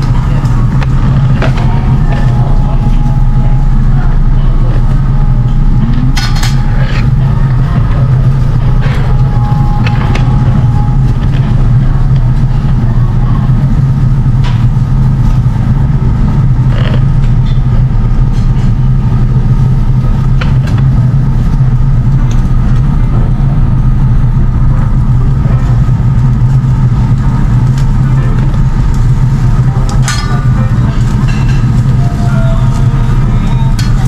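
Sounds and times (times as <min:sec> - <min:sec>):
grill low hum: 0:00.0 - 0:34.0.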